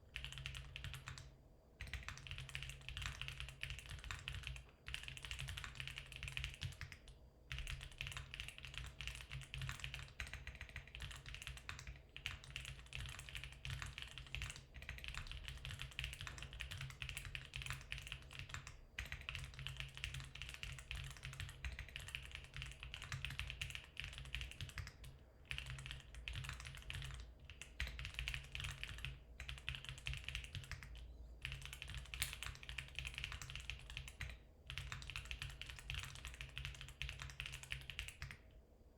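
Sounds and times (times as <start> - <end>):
typing on mechanical keyboard: 0.1 - 38.5.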